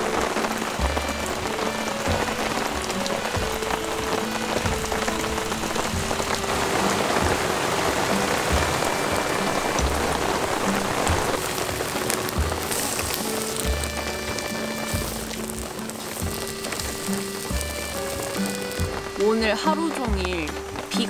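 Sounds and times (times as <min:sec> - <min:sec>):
rain falling on a tarp: 0:00.0 - 0:21.0
soft background music: 0:00.0 - 0:21.0.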